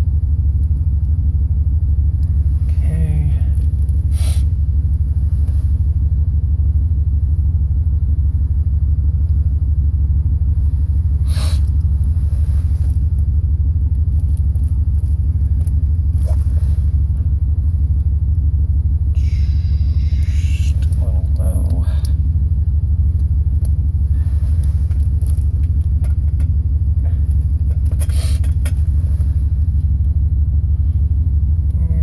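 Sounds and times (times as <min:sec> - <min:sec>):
loud low rumble: 0:00.0 - 0:32.0.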